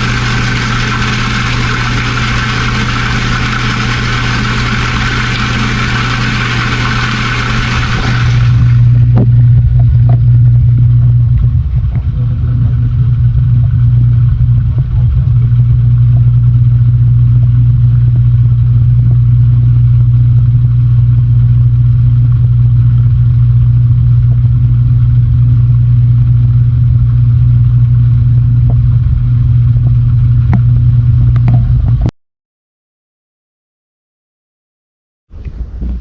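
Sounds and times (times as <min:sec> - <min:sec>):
food blender motor running: 0:00.0 - 0:32.1.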